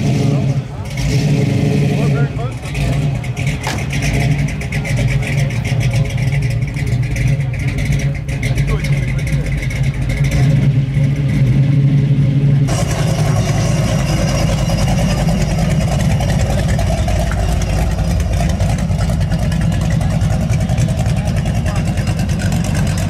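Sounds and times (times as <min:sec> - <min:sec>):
car engine idling: 0:00.0 - 0:23.0
car engine rolling away: 0:00.0 - 0:23.0.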